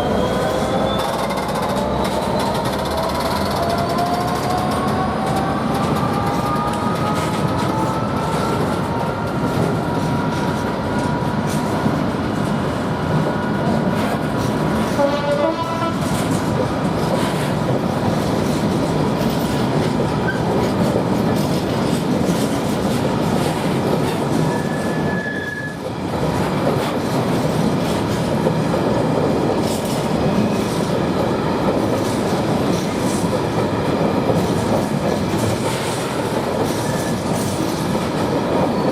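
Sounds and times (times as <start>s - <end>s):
train wheels clattering: 0.2s - 12.6s, 13.8s - 38.9s.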